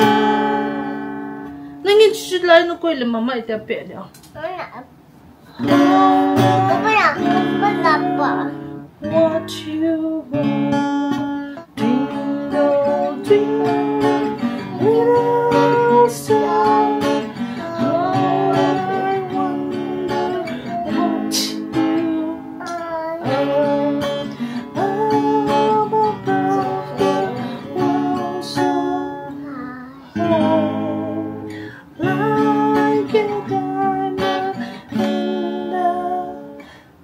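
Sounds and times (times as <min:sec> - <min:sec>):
acoustic guitar strummed: 0:00.0 - 0:02.3, 0:05.6 - 0:37.0
person singing: 0:05.5 - 0:36.7.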